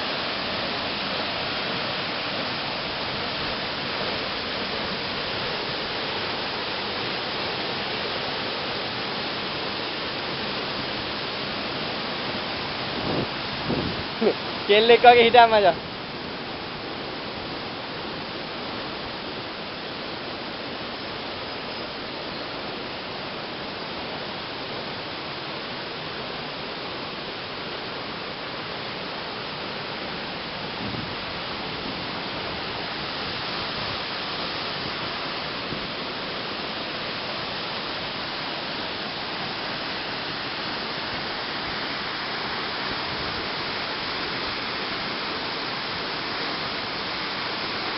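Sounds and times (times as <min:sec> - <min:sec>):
waterfall rushing and splashing: 0:00.0 - 0:47.9.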